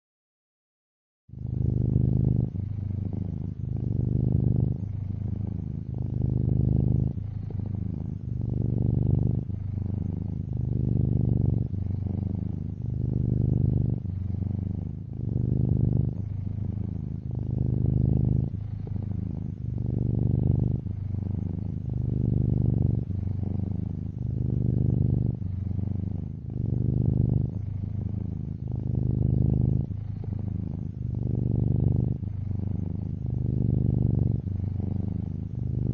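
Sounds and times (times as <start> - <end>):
cat purring: 1.3 - 35.9.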